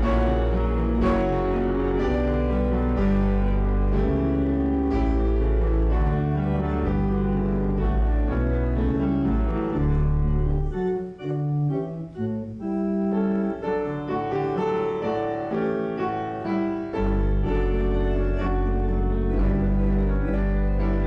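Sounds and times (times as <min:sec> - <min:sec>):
slow keyboard music: 0:00.0 - 0:21.0.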